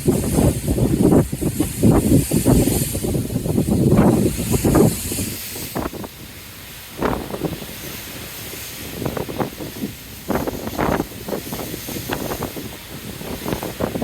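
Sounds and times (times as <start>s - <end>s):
hiss of wind and sea: 0.0s - 14.0s
wind buffeting microphone: 0.0s - 14.0s.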